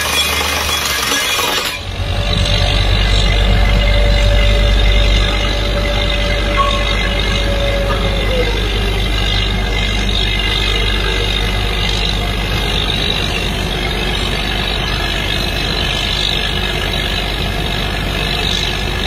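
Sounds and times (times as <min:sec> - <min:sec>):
engine and compressor drone: 0:00.0 - 0:19.0.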